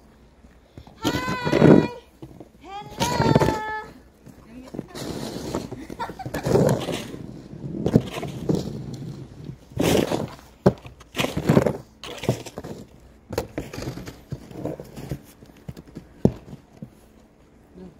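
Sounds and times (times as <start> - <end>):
snow pusher scraping snow: 1.0 - 15.4.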